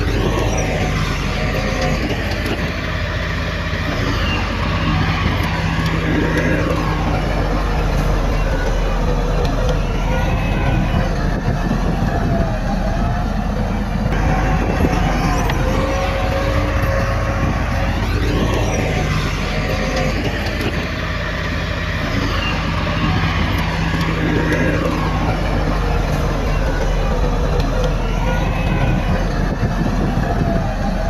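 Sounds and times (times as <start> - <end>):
heavy diesel machinery running: 0.0 - 31.0.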